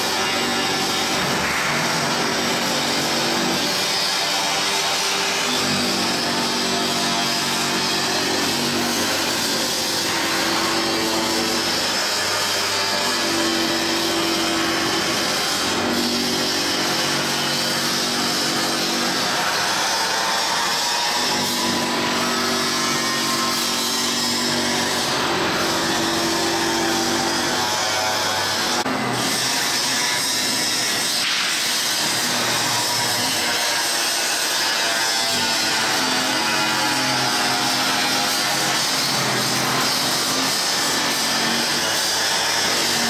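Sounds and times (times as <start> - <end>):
machine grinding steel blade: 0.0 - 43.0.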